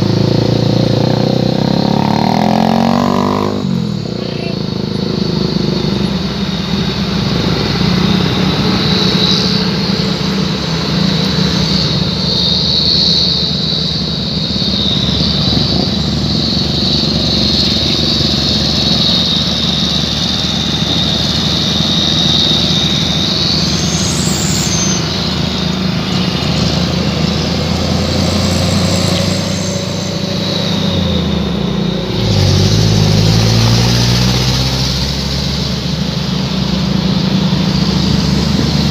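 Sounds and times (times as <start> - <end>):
truck engine revving: 0.0 - 38.9
truck engines droning: 0.0 - 38.9.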